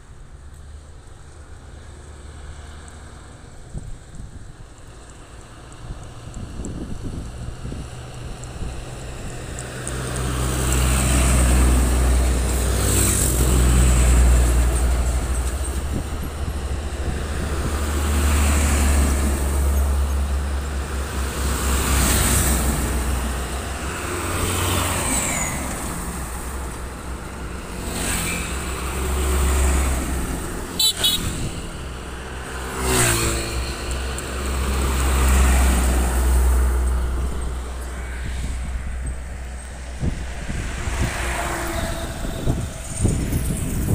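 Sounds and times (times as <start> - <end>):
diesel trucks driving past: 0.0 - 43.9.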